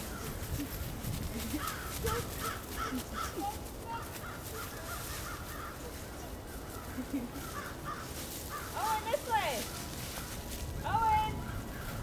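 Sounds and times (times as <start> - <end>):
footsteps through dry leaves: 0.0 - 12.0.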